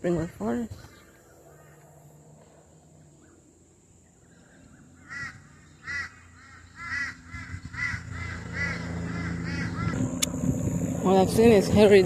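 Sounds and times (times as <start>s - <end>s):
bird calling: 0.1s - 10.2s.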